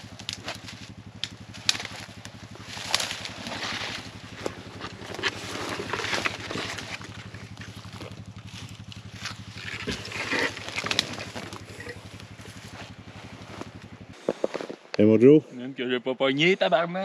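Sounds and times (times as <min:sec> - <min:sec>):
engine idling: 0:00.0 - 0:14.6
rustling and scuffling: 0:00.0 - 0:15.0.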